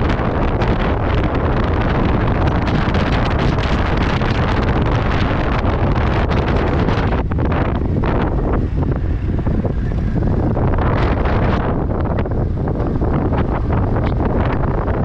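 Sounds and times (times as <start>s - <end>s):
engine and road rumble: 0.0s - 15.0s
wind rushing over microphone: 0.0s - 15.0s.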